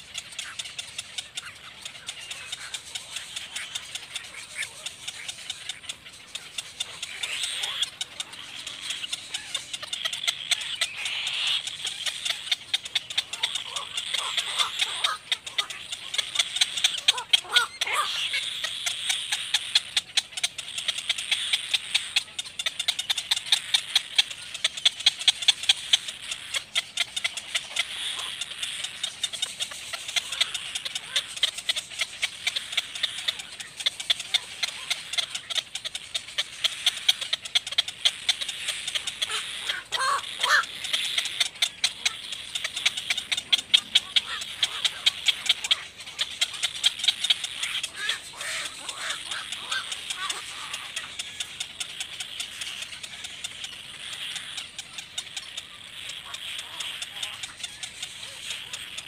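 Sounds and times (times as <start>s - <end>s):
chicks begging with rasping chatter: 0.0s - 59.0s
lower bird calls: 0.0s - 59.0s.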